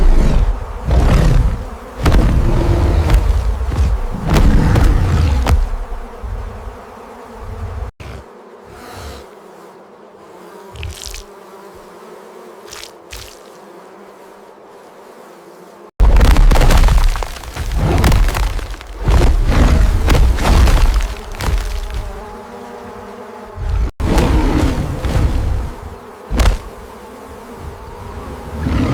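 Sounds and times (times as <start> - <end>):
bee swarm buzzing: 0.0 - 28.9.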